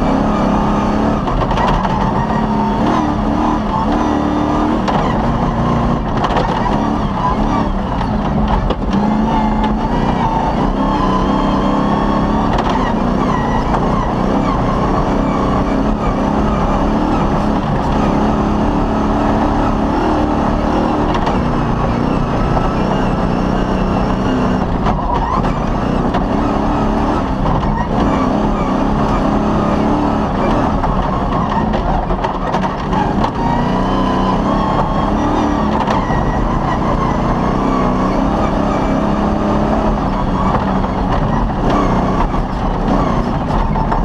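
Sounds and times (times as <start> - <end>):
rally car engine running hard: 0.0 - 44.0.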